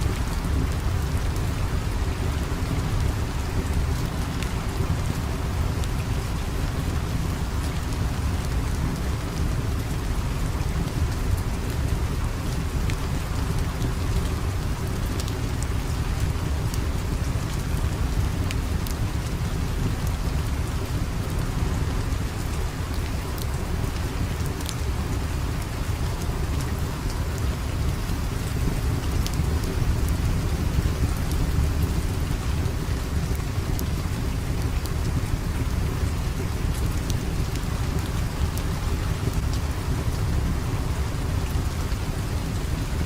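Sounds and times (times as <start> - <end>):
fire crackling: 0.0 - 43.0
steady rain: 0.0 - 43.0.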